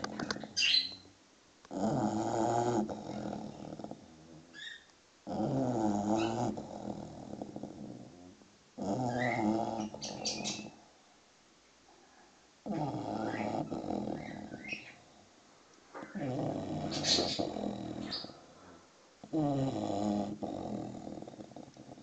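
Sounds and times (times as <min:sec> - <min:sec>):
dog snoring: 0:00.0 - 0:01.1, 0:01.7 - 0:10.8, 0:12.6 - 0:15.0, 0:16.0 - 0:22.0.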